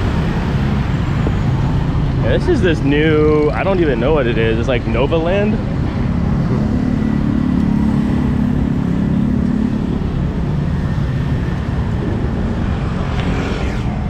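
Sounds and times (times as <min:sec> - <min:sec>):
car and motorbike engines: 0:00.0 - 0:14.0.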